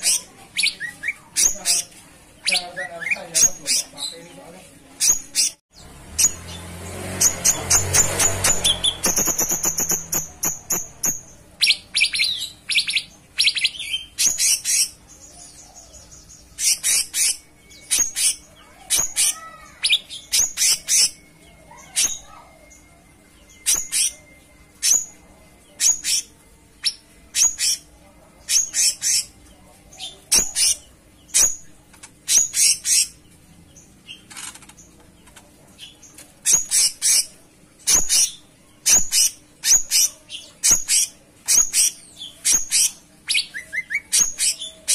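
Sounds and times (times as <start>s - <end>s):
songbird chirping and trilling: 0.0s - 44.9s.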